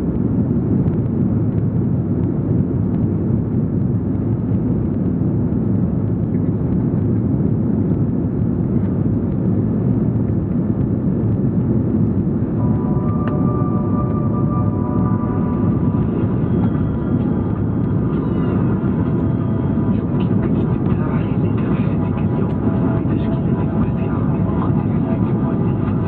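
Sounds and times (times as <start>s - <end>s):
aircraft engines rumbling in cabin: 0.0s - 26.0s.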